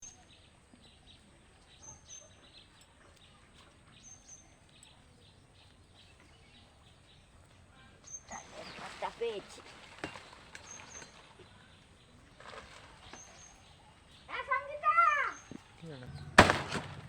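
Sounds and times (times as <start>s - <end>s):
bird chirping: 0.0s - 9.4s, 10.0s - 17.0s
outdoor background noise: 0.0s - 17.0s.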